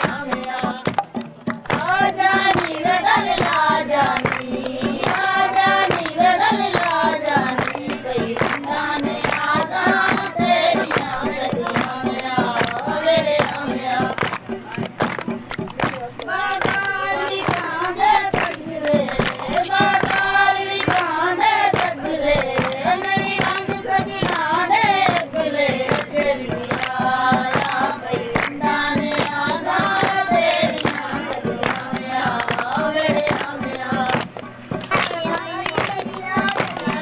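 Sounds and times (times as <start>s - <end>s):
group singing folk song: 0.0s - 37.0s
hand claps: 0.0s - 37.0s.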